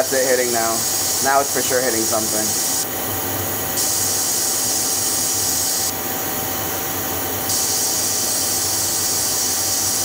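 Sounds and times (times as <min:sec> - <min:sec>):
machine hiss: 0:00.0 - 0:10.0.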